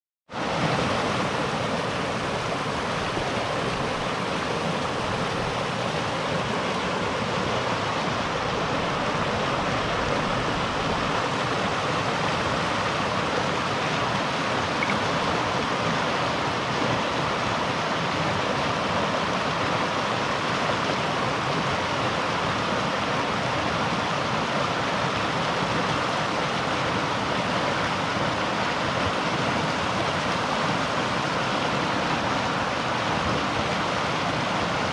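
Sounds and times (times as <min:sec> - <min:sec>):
river water rushing and splashing: 0:00.3 - 0:34.9.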